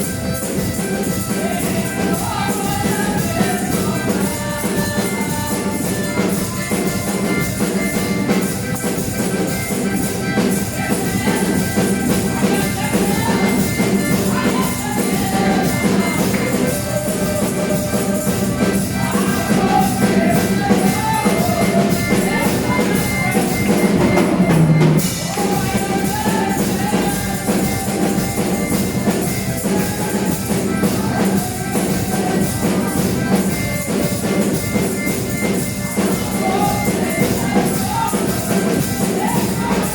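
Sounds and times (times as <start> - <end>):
band playing praise music: 0.0 - 39.9.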